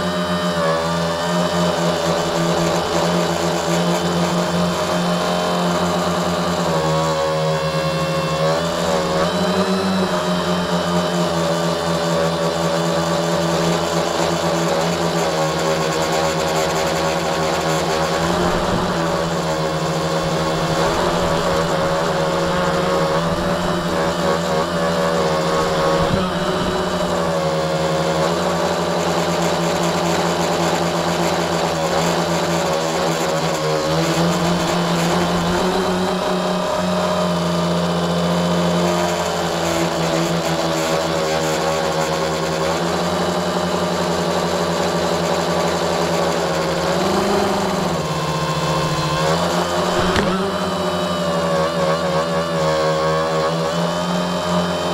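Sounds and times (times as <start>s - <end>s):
electric motors and propellers whining: 0.0s - 54.9s.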